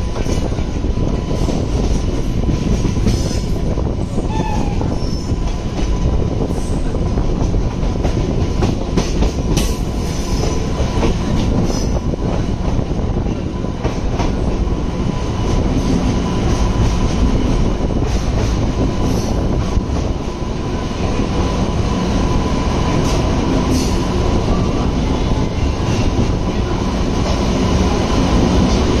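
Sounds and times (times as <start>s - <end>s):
train wheels rumbling on rail: 0.0s - 29.0s
wind: 0.0s - 29.0s.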